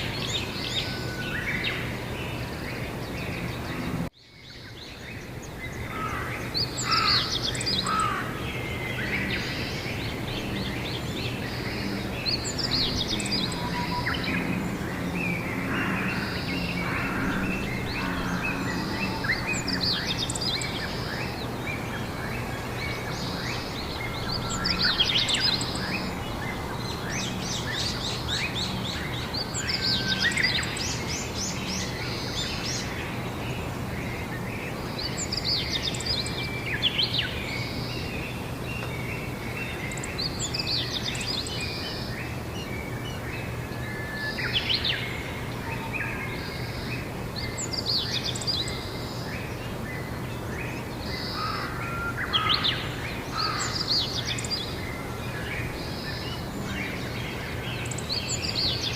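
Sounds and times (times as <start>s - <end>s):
background hiss: 0.0s - 58.9s
songbirds chirping and trilling: 0.0s - 58.9s.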